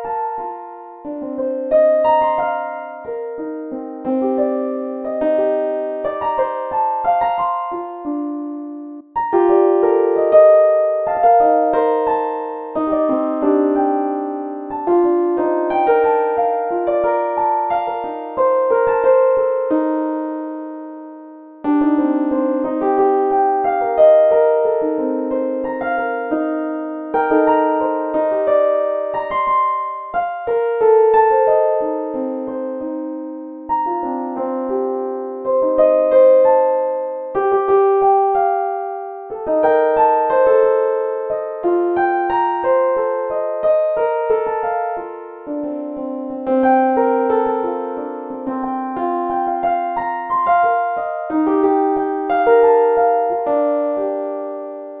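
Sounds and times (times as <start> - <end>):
gentle piano melody: 0.0 - 55.0.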